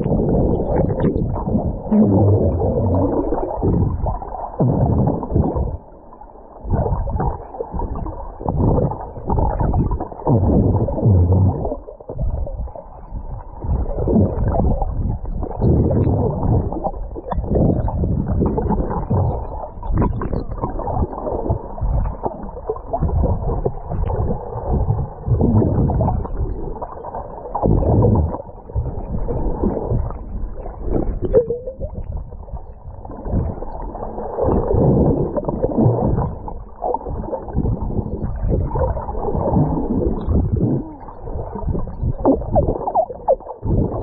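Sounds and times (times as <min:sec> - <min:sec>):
muffled water sloshing: 0:00.0 - 0:44.0.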